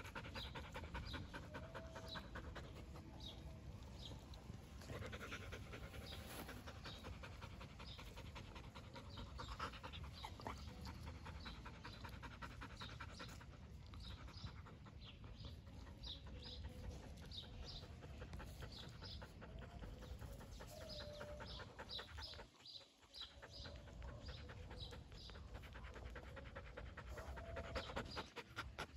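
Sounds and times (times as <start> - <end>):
dog panting: 0.0 - 28.9.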